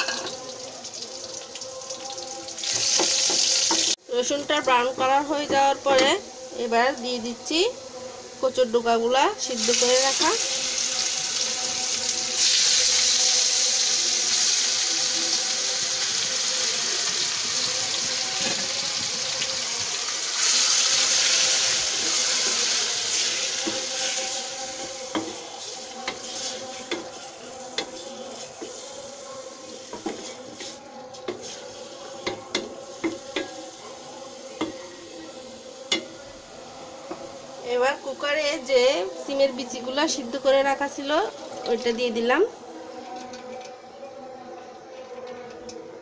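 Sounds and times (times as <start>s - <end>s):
food sizzling in hot oil: 0.0s - 42.3s.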